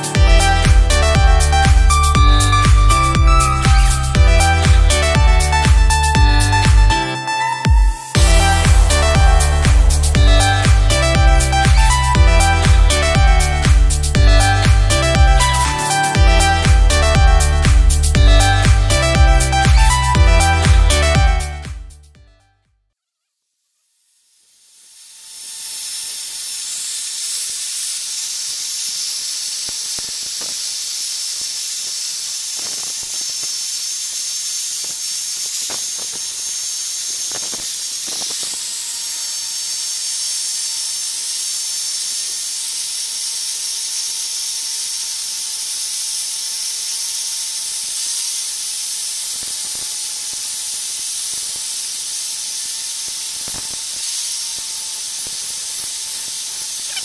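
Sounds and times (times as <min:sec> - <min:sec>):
angle grinder grinding metal: 0:00.0 - 0:22.2, 0:24.7 - 0:57.0.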